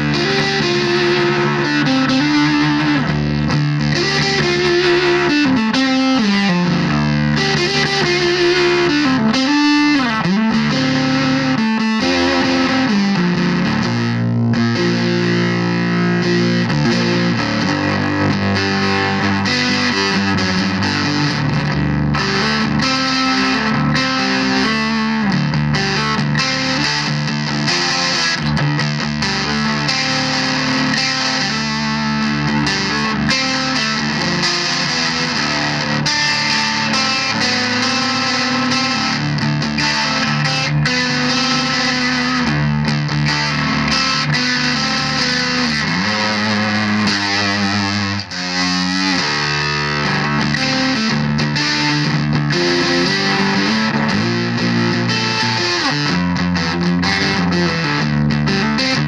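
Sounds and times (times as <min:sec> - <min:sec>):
distorted electric guitar chords: 0:00.0 - 0:59.0.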